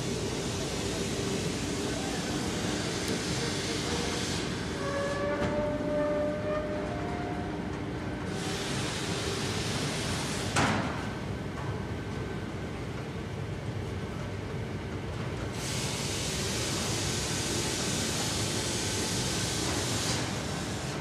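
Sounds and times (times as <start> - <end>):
lamination machine rumble and hiss: 0.0 - 21.0.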